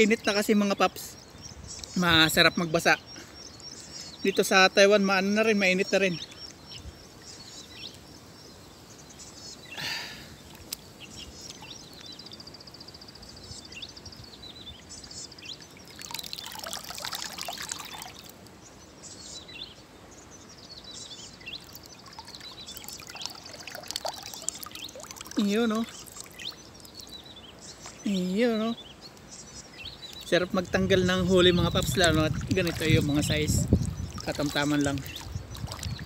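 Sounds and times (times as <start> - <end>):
water splashing and trickling: 0.0 - 12.2, 14.1 - 19.4, 20.4 - 36.0
birds chirping: 0.0 - 36.0.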